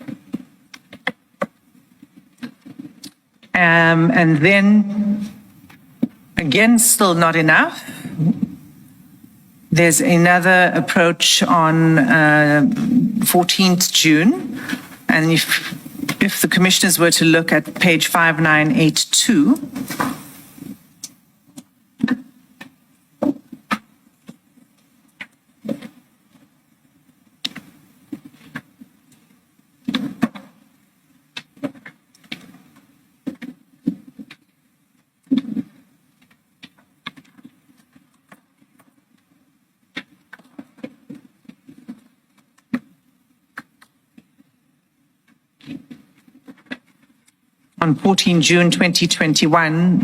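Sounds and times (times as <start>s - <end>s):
faint low room hum: 0.0s - 50.0s.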